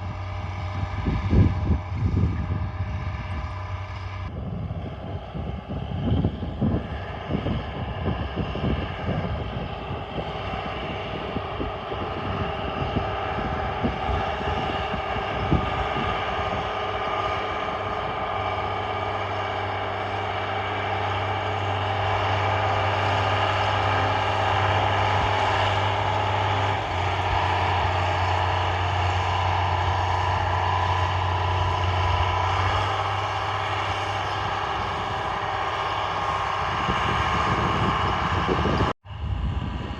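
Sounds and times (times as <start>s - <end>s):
low thumps and buffeting: 0.0s - 39.9s
tractor diesel engine running: 0.0s - 39.9s.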